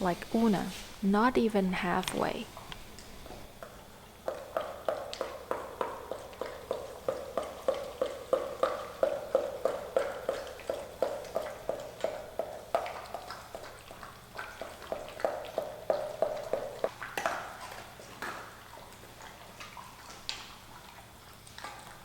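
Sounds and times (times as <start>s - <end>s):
dog lapping water: 1.8s - 22.0s.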